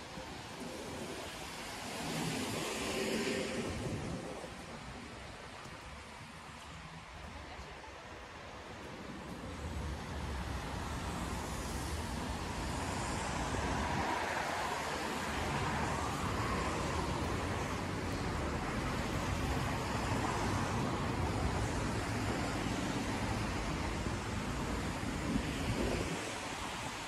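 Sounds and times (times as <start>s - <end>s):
tyres hissing on wet road: 0.0s - 27.0s.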